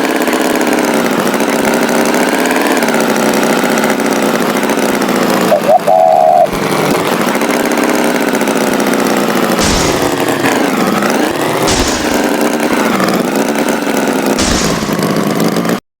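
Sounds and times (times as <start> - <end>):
tractor engine revving: 0.0 - 15.8.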